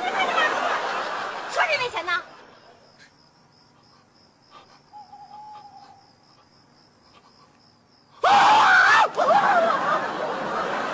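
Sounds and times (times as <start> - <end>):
insect chirping: 0.0 - 9.2.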